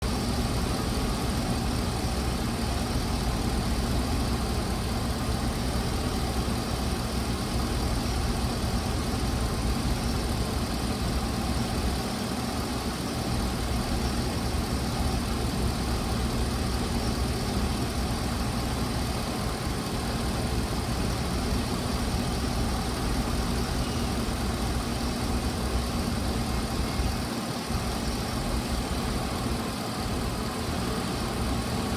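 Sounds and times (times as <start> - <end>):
bus engine idling: 0.0 - 31.9.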